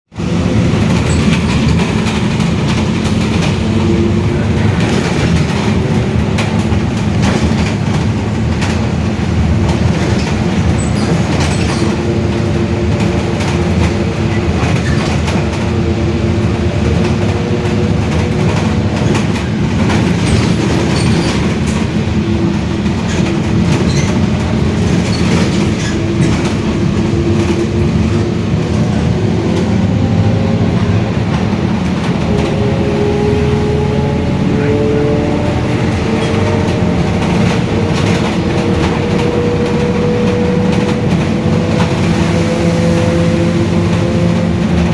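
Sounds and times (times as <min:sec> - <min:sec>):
bus differential droning: 0:00.1 - 0:44.9
road and running noise: 0:00.1 - 0:44.9.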